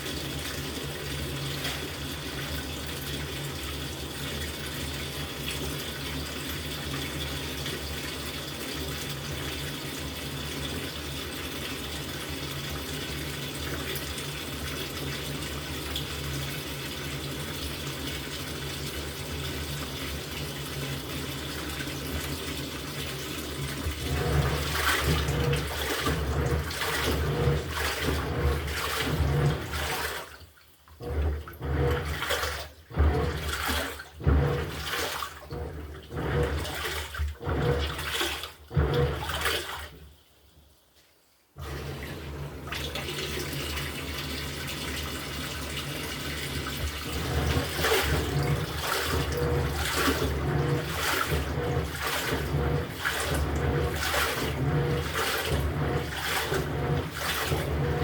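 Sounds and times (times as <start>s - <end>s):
water rushing into tub: 0.0s - 40.2s, 41.6s - 58.0s
water sloshing in washer: 0.0s - 58.0s.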